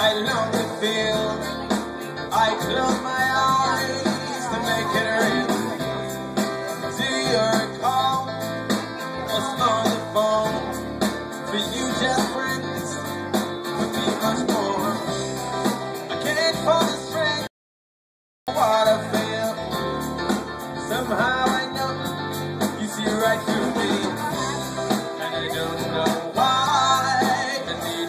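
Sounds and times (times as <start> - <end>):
bass notes: 0.0 - 17.5, 18.5 - 28.0
guitar: 0.0 - 17.5, 18.5 - 28.0
live band through speakers: 0.0 - 17.5, 18.5 - 28.0
person singing: 0.0 - 17.5, 18.5 - 28.0.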